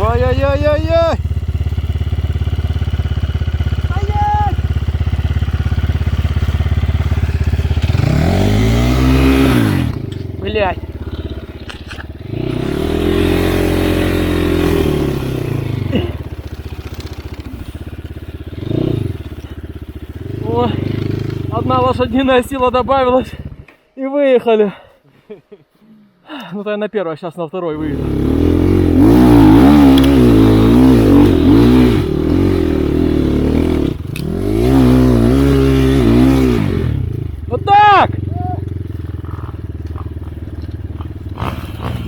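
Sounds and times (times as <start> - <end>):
dirt bike engine revving: 0.0 - 23.7, 27.8 - 42.0.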